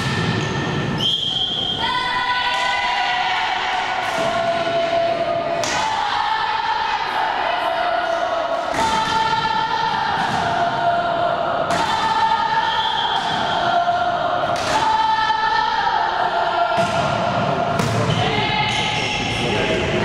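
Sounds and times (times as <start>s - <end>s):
high voices chanting: 1.8s - 20.0s.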